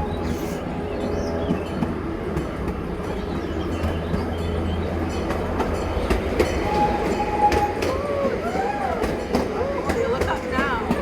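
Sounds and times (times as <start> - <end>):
train rumbling: 0.0 - 11.0
wheels clacking over rail joints: 0.0 - 11.0.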